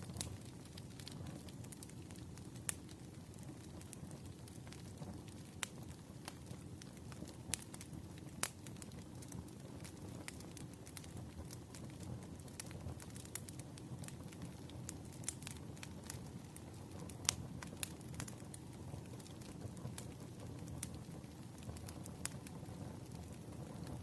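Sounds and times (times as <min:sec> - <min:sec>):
firewood crackling and popping: 0:00.0 - 0:24.0
low rumble of flames: 0:00.0 - 0:24.0.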